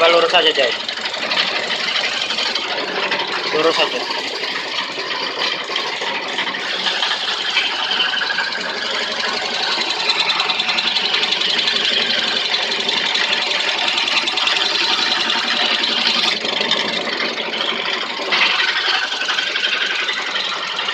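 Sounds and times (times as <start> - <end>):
carving machine running: 0.0 - 20.9.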